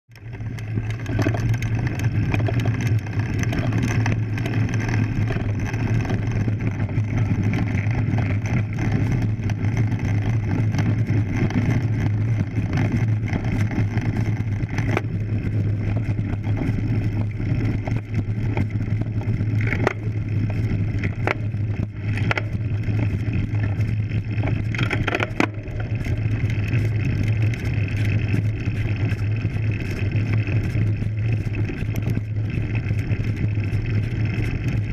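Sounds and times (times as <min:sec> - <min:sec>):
bike tyres rolling hum: 0:00.1 - 0:34.9
bike knocks and rattles: 0:00.2 - 0:34.9.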